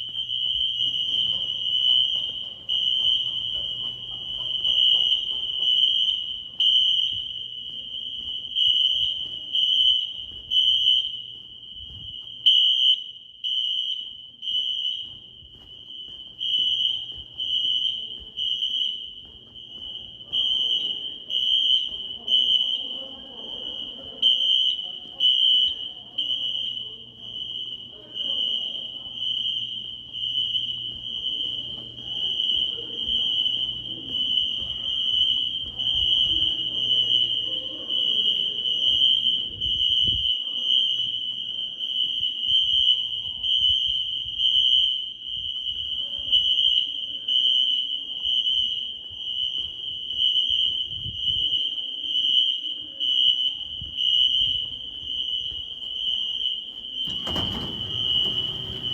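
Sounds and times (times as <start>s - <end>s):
fire alarm horn: 0.0s - 58.9s.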